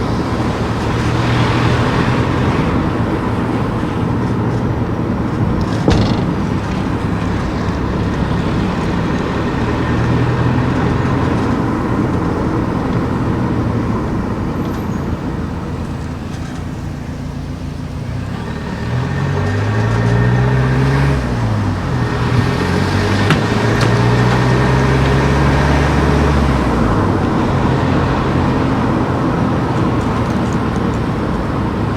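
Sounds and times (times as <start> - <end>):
car engine and road noise: 0.0 - 31.9.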